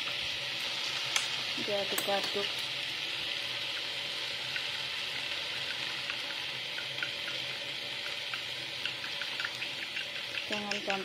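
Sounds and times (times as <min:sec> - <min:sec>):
meat sizzling in pan: 0:00.0 - 0:11.0.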